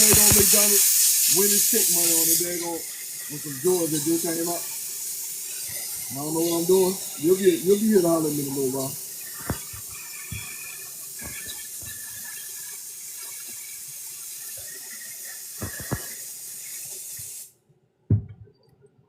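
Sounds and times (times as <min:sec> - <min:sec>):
water running from a tap: 0:00.0 - 0:17.5.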